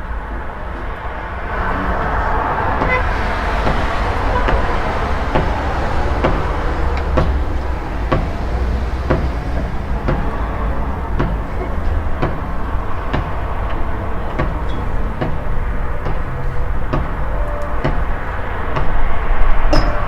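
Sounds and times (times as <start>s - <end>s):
street traffic rumble: 0.0s - 20.0s
workers hammering: 1.5s - 20.0s.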